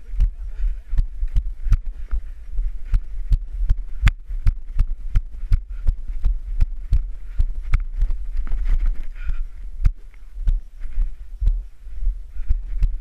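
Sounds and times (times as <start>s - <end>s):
low rumble of wind on microphone: 0.0s - 13.0s
rhythmic thumps of hurried footsteps: 0.0s - 13.0s.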